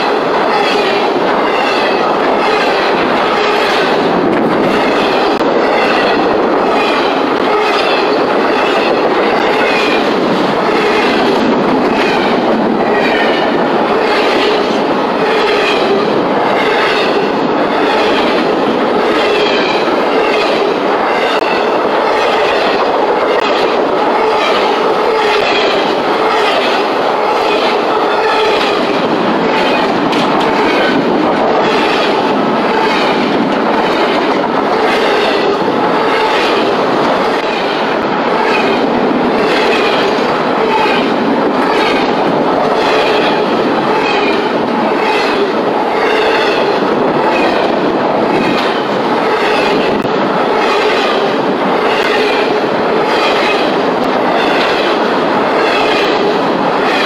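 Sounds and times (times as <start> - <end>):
freight train rumbling past: 0.0 - 57.0
wheels clacking over rail joints: 0.0 - 57.0.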